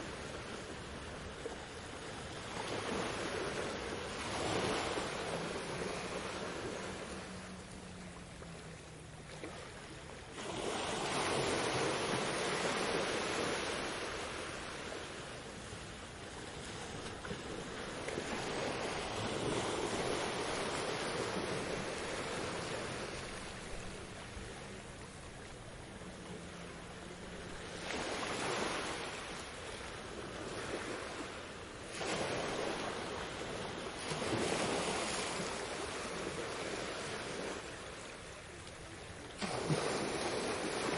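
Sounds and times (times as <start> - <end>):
sea waves breaking on beach: 0.0 - 40.9.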